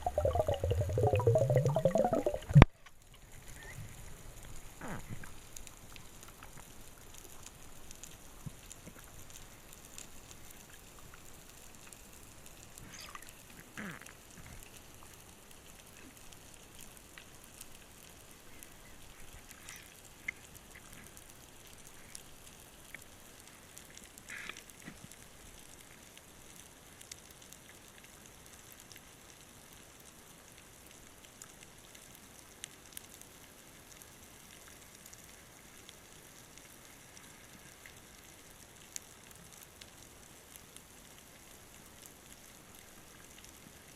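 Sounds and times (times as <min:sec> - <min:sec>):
underwater crackle and hiss: 0:00.0 - 0:43.9.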